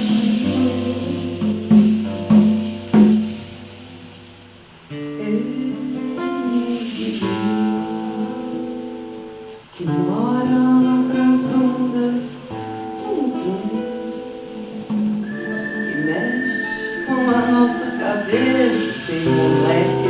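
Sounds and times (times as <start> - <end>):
gliding sung notes: 0.0 - 20.0
plucked acoustic guitar: 0.0 - 20.0.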